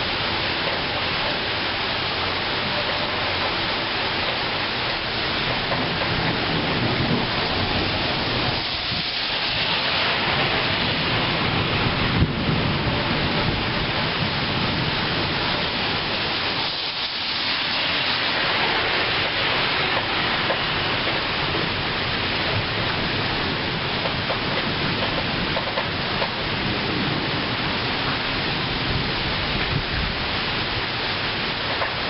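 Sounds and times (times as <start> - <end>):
heavy rain: 0.0 - 32.0.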